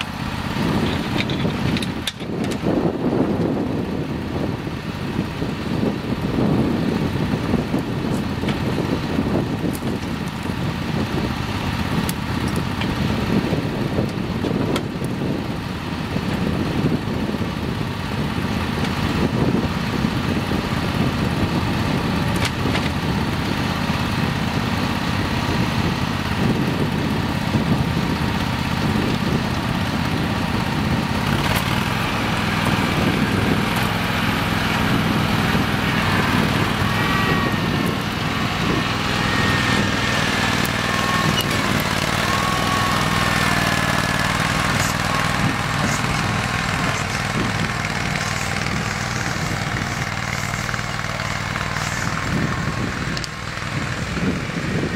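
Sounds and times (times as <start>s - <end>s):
garden tractor engine running: 0.0s - 54.9s.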